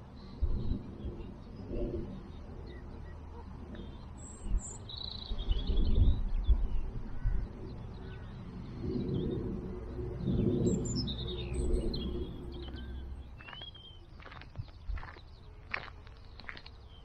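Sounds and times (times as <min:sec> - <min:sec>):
low microphone rumble: 0:00.0 - 0:17.0
songbirds chirping: 0:00.0 - 0:17.0.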